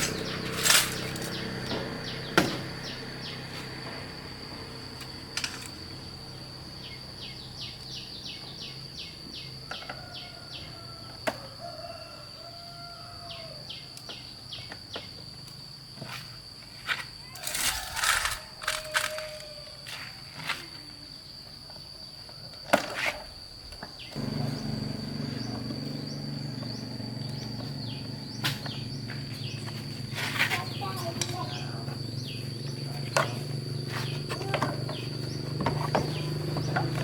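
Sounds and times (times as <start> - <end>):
insects high-pitched drone: 0.0 - 37.0.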